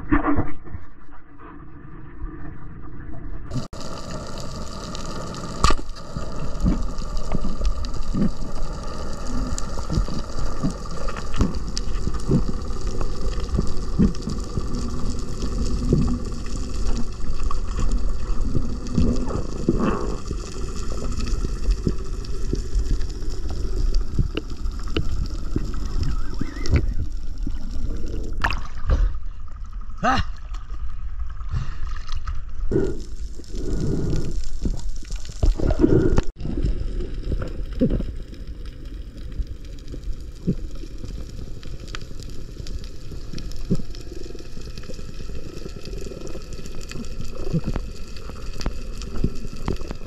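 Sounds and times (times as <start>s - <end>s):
muffled underwater water rumble: 0.0s - 50.0s.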